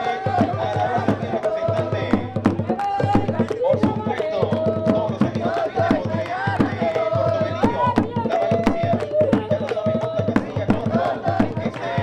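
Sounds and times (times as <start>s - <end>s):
hand drums beating: 0.0s - 12.0s.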